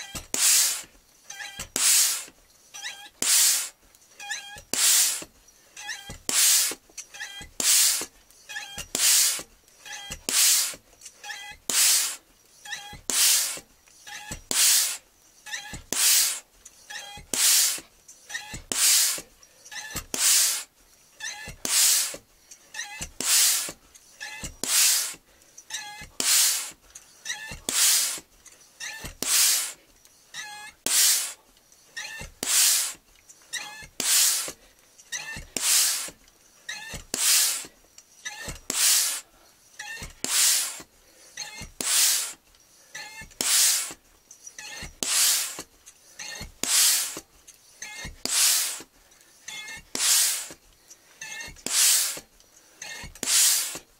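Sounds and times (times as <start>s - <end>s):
faint pump squeak: 0.0s - 53.9s
hand pump air hiss: 0.0s - 53.9s.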